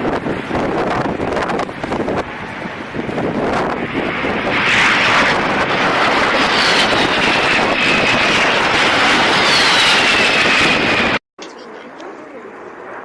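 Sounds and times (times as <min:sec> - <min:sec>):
high engine whine: 0:00.0 - 0:11.2
aircraft engine running: 0:00.0 - 0:13.0.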